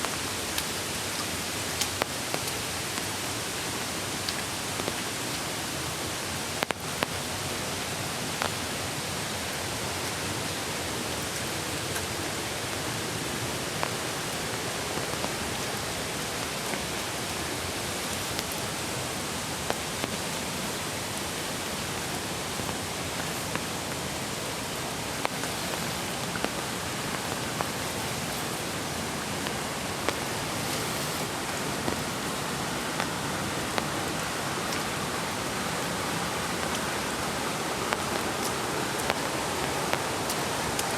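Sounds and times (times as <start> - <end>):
creek water flowing: 0.0 - 40.9
light rain: 0.0 - 40.9.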